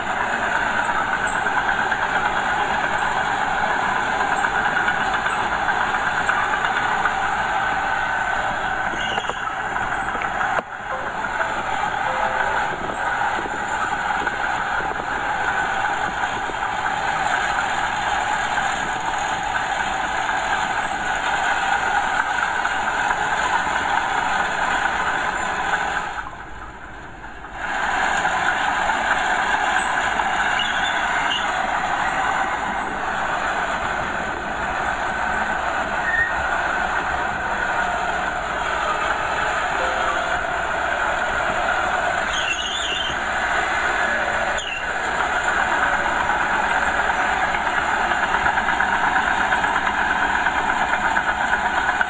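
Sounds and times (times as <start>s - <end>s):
bulldozer engine and tracks: 0.0s - 52.0s.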